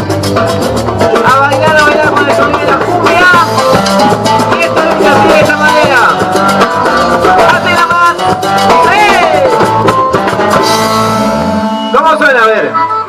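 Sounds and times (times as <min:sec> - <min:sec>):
bass: 0:00.0 - 0:13.0
lead melody with pitch bends: 0:00.0 - 0:13.0
percussion beat: 0:00.0 - 0:13.0.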